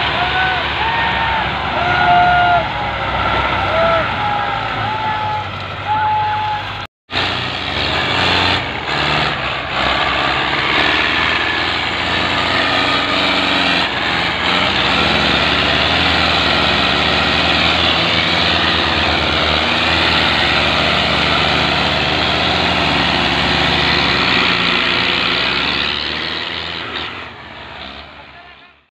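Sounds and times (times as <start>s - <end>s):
tractor diesel engine straining: 0.0s - 28.9s.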